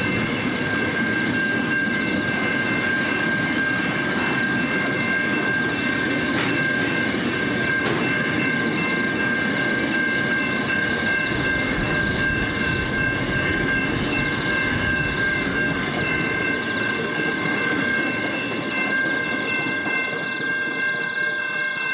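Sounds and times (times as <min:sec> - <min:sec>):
freight train rumbling on rails: 0:00.0 - 0:21.9.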